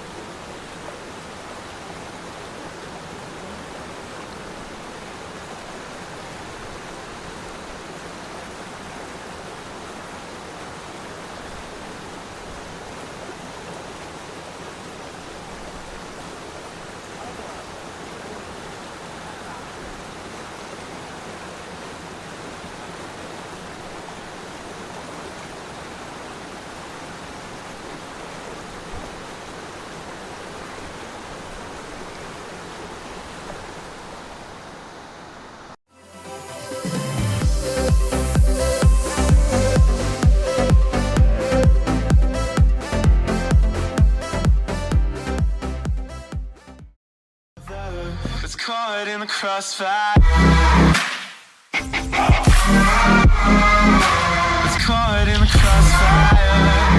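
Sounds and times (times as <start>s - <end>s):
water rushing over rocks: 0.0s - 35.8s, 36.4s - 44.8s, 48.3s - 56.9s.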